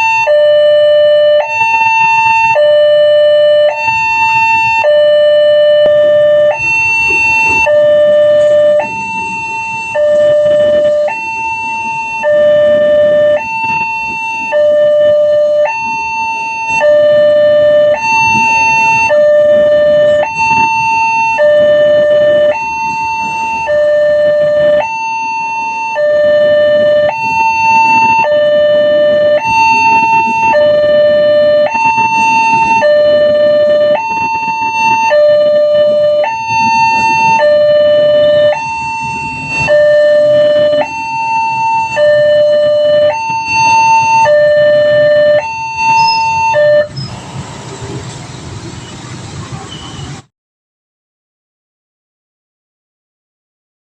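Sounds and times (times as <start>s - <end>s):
two-tone level crossing siren: 0.0s - 47.1s.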